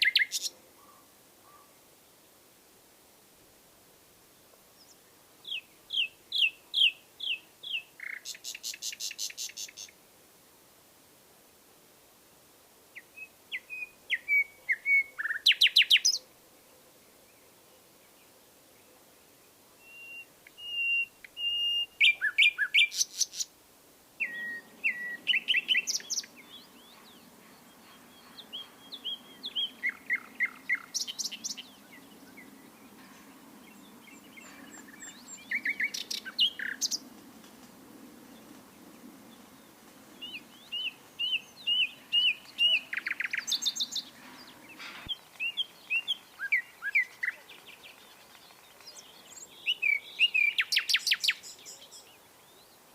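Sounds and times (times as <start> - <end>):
nightingale singing: 0.0 - 1.7, 4.8 - 10.0, 12.9 - 18.9, 19.8 - 23.5, 24.2 - 37.2, 39.3 - 52.9.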